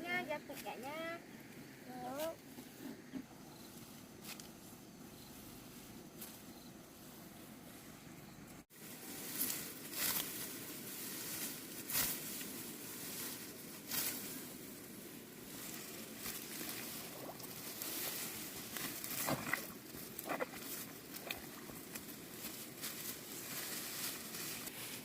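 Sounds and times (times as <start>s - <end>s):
steady hiss: 0.0s - 25.0s
rustling and crunching strokes: 0.2s - 25.0s.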